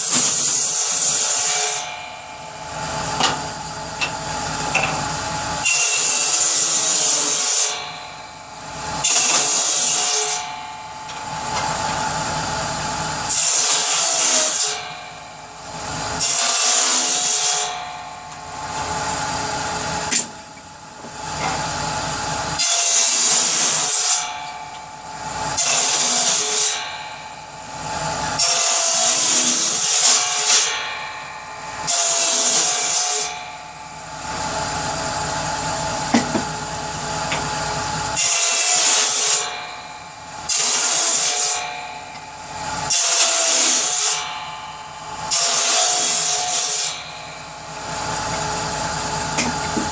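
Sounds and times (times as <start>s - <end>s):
power saw cutting firewood: 0.0s - 49.9s.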